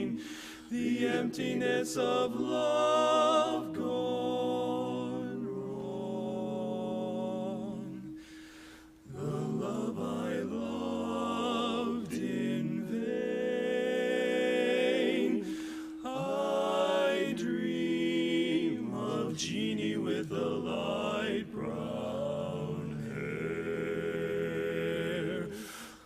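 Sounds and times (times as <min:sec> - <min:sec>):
male quartet singing in harmony: 0:00.0 - 0:26.0.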